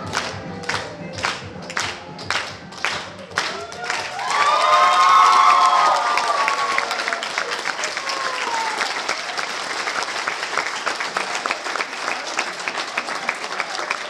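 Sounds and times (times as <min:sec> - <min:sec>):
people clapping: 0:00.0 - 0:14.0.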